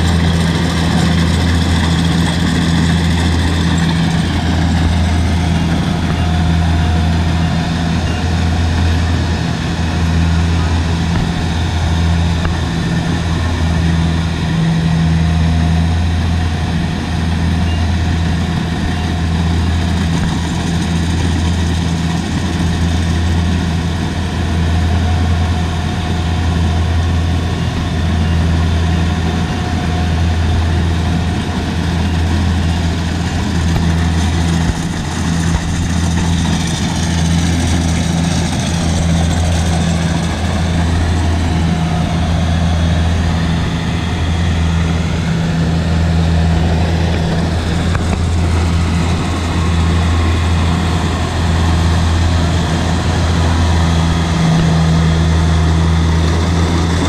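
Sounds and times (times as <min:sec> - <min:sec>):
machinery whirring: 0:00.0 - 0:15.2, 0:17.6 - 0:57.0
harvester engine hum: 0:00.0 - 0:57.0.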